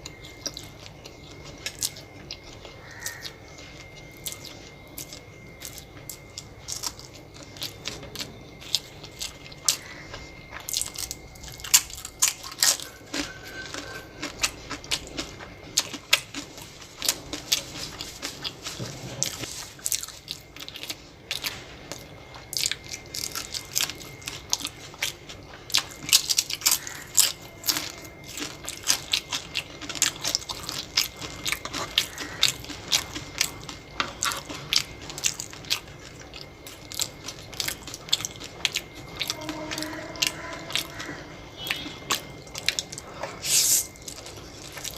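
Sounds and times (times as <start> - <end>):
crunching and chewing food: 0.0 - 44.9.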